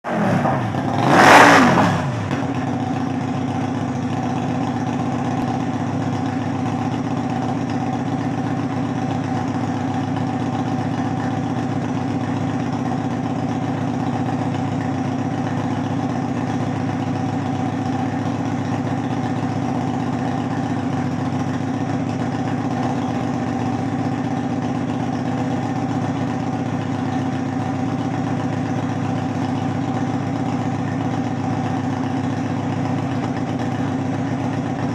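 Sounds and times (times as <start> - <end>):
motorcycle exhaust rumbling: 0.1 - 34.9.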